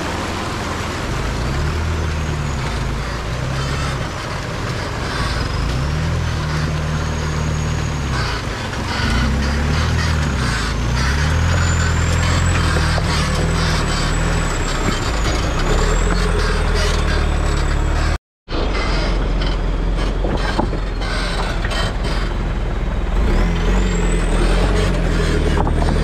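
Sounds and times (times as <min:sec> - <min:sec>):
diesel engine at low revs: 0:00.0 - 0:26.0.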